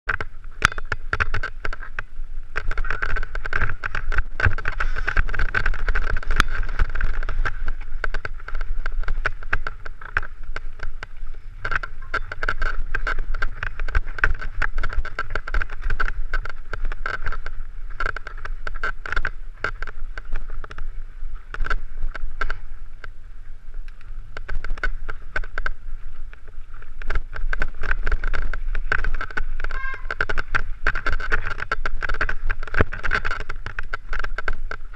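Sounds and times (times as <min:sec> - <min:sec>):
wind rumble on microphone: 0:00.0 - 0:34.9
mountain bike rattling on rocks: 0:00.1 - 0:34.9.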